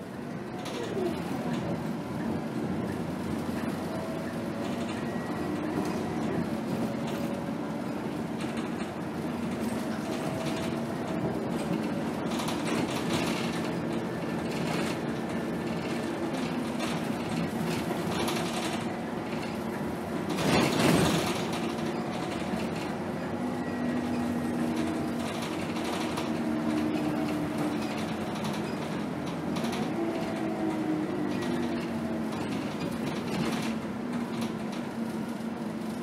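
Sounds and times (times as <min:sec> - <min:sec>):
bus diesel engine running: 0:00.0 - 0:36.0
road noise: 0:00.0 - 0:36.0.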